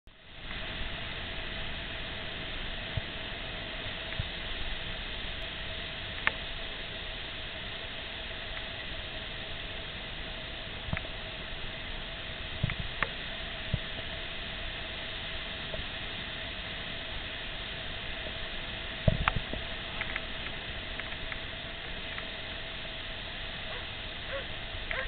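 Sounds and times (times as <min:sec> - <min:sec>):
faint steady tone: 0:00.1 - 0:25.0
ocean surf hissing: 0:00.2 - 0:25.0.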